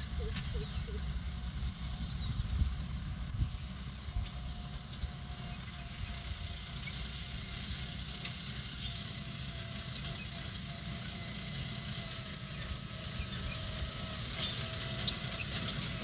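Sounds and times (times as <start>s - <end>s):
tractor diesel engine rumbling: 0.0s - 16.0s.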